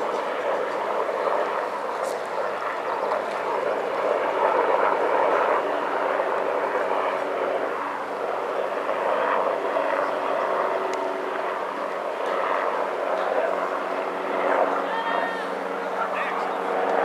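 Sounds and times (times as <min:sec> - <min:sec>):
model airplane engine running: 0:00.0 - 0:17.0.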